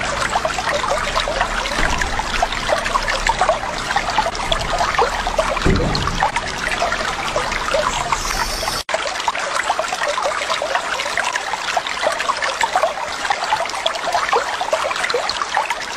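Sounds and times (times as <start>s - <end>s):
water trickling and babbling: 0.0s - 15.9s.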